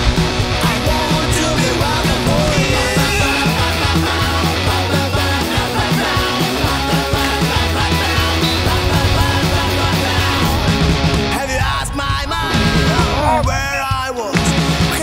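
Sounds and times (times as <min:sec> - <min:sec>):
rock music with steady beat: 0:00.0 - 0:15.0.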